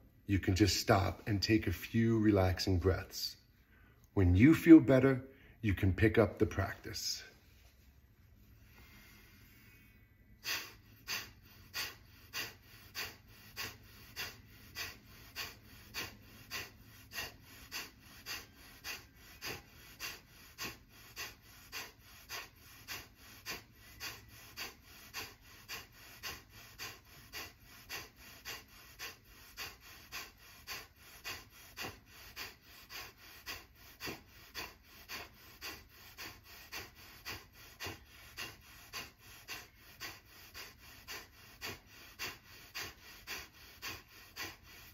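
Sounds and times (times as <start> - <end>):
forceful nasal exhales: 8.6 - 44.9.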